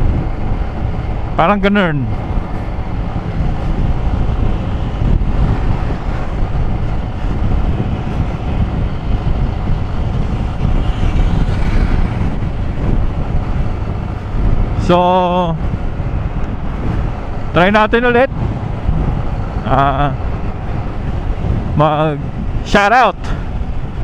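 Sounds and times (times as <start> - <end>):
scooter engine and road noise: 0.0 - 24.0
wind rushing over microphone: 0.0 - 24.0.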